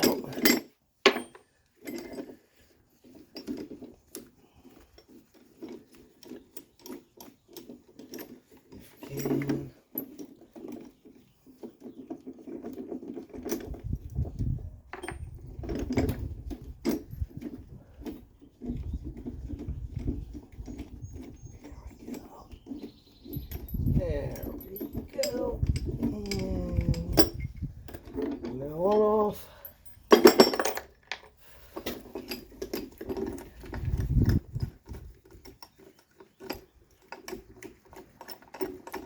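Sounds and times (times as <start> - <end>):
metallic clicks and clinks: 0.0 - 2.4, 3.3 - 10.9, 11.9 - 39.0
low scraping and handling noise: 1.0 - 39.0.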